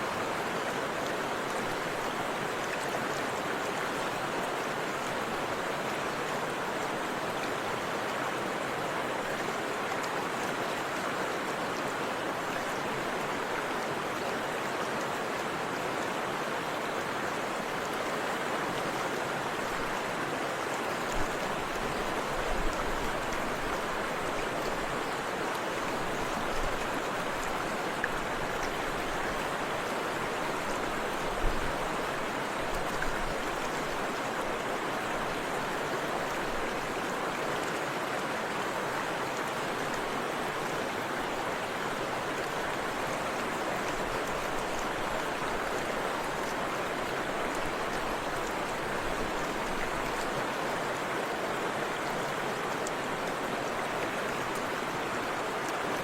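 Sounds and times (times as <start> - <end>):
river water splashing over rocks: 0.0 - 56.0.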